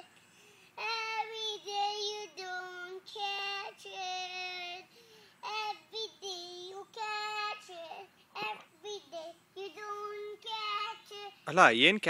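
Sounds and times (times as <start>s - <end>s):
child singing in high voice: 0.8s - 11.4s.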